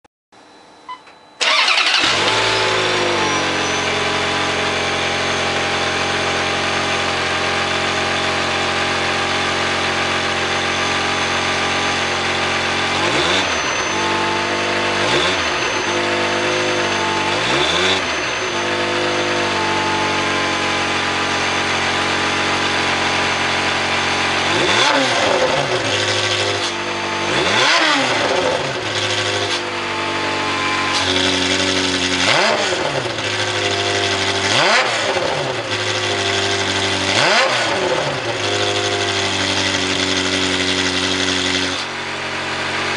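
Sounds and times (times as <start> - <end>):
car engine starting and idling: 1.4 - 42.9
engine revving: 1.4 - 42.9.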